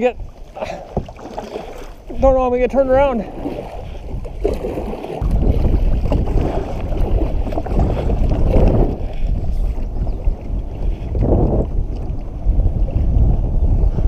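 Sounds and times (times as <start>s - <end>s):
water lapping at kayak: 0.0s - 14.0s
wind buffeting microphone: 0.0s - 14.0s.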